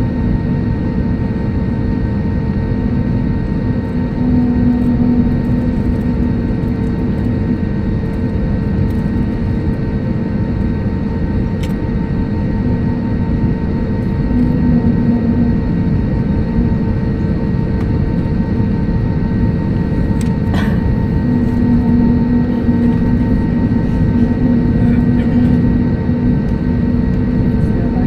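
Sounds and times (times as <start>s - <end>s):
jet engines heard from cabin: 0.0s - 28.0s.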